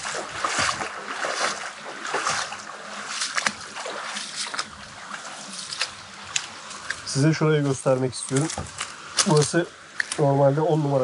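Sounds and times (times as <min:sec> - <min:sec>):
footsteps splashing through stream: 0:00.0 - 0:10.4
running water hiss: 0:00.0 - 0:11.0.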